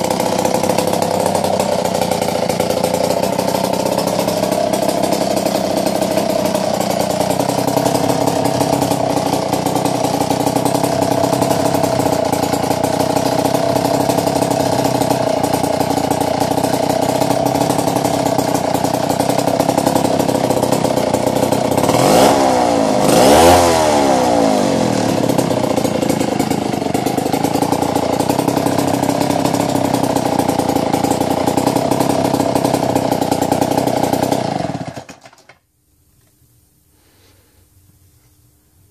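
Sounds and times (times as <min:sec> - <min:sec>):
chainsaw engine idling and revving: 0:00.0 - 0:35.6.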